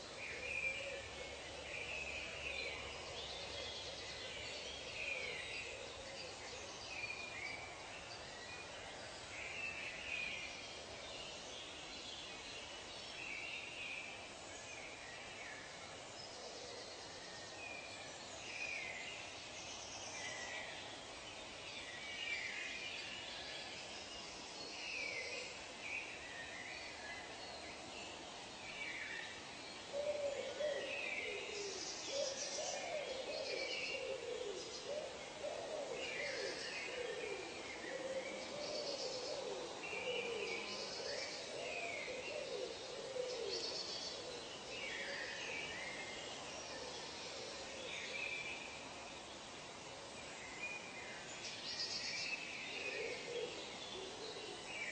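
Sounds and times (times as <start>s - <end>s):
steady background hiss: 0.0s - 54.9s.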